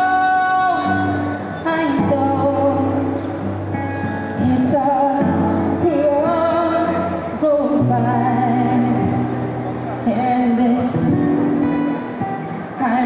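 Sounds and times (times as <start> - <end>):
person singing: 0.0 - 3.4, 4.3 - 13.0
strummed acoustic guitars: 0.0 - 13.0.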